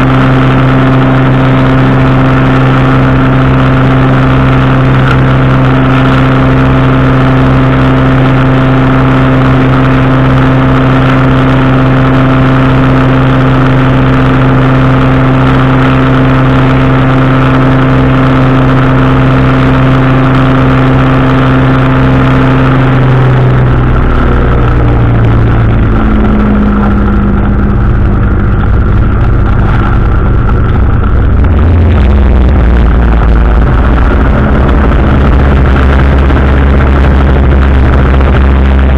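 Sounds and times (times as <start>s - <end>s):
engine and propeller running: 0.0s - 38.9s.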